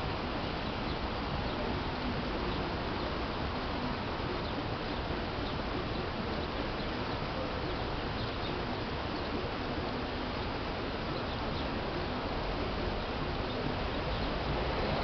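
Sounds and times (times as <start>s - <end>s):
even outdoor hiss: 0.0s - 15.0s.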